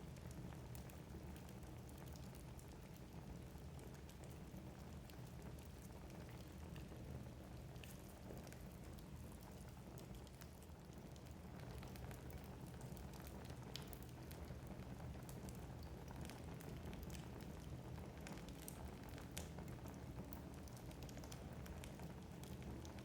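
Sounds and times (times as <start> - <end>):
low steady fire rumble: 0.0 - 23.0
wood fire crackling: 0.0 - 23.0.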